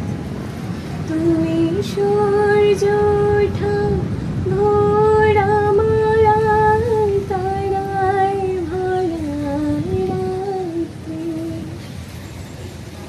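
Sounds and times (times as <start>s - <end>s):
low steady rumble: 0.0s - 13.0s
woman singing slow melody: 1.0s - 11.8s.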